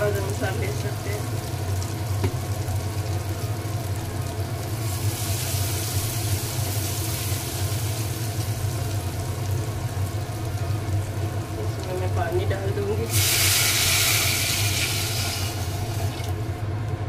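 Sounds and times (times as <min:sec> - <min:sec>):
cooktop low hum: 0:00.0 - 0:17.0
spices sizzling in oil: 0:00.0 - 0:17.0.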